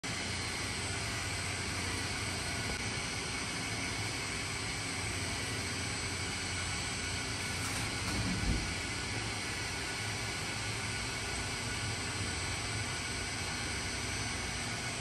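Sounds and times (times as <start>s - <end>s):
coffee roaster running: 0.0s - 15.0s.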